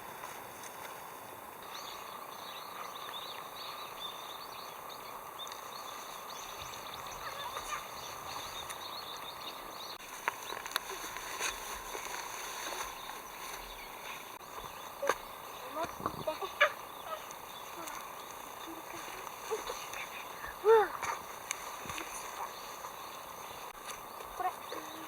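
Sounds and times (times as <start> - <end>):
small birds chirping: 1.5 - 25.0.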